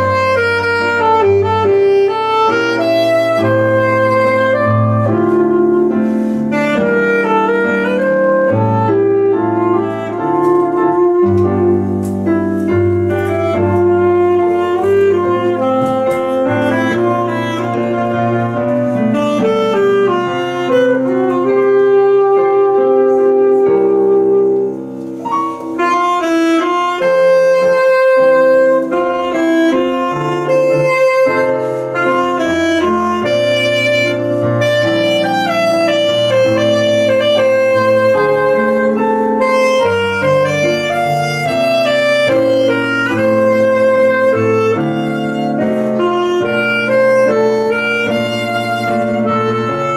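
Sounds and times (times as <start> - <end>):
piano accompaniment: 0.0 - 49.9
saxophone slow melody: 0.0 - 49.9.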